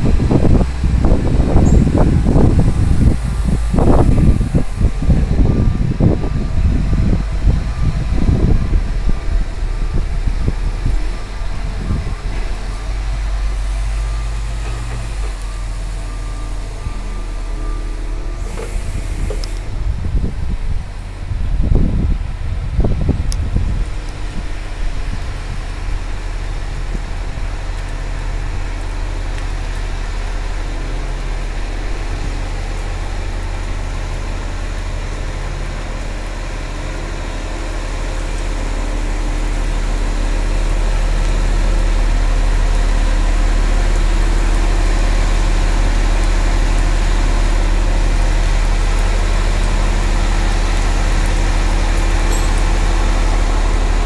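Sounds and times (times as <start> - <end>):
forklift engine humming: 0.0 - 54.0.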